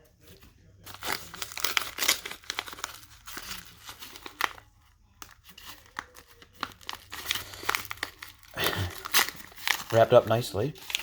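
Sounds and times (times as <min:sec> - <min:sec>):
plastic packaging crinkling: 0:00.3 - 0:11.0.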